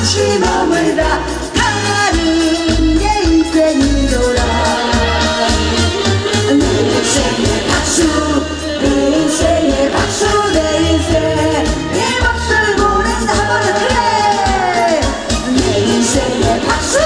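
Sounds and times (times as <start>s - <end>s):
woman singing into microphone: 0.0s - 5.2s, 6.5s - 17.0s
live band with drums and keyboards: 0.0s - 17.0s.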